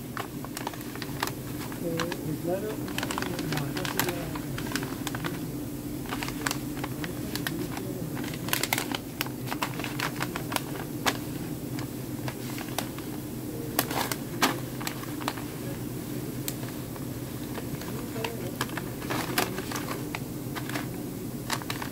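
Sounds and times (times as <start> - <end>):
paper pouches crinkling: 0.0 - 21.9
steady low hum: 0.0 - 21.9.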